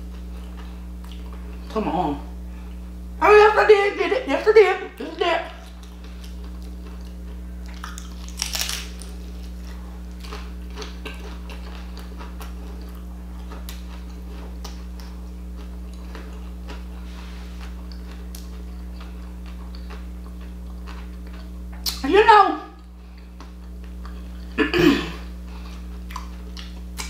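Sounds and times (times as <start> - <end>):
crunchy taco chewing: 0.0 - 1.7, 5.4 - 22.0, 22.7 - 27.0
steady low hum: 0.0 - 27.0.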